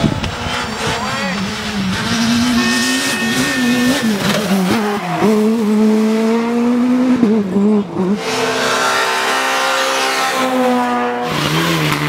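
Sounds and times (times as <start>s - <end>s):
rally car engine revving high: 0.0s - 12.0s.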